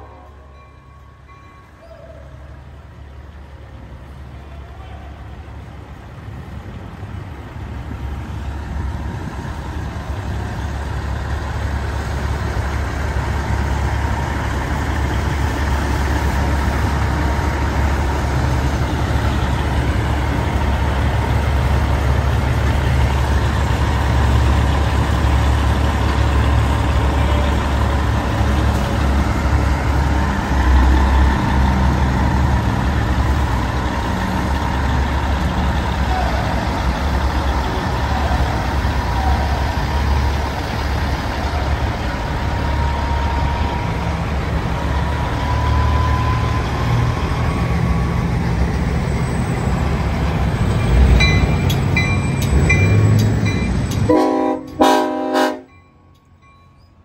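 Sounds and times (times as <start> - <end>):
truck diesel engine idling: 5.2 - 55.7.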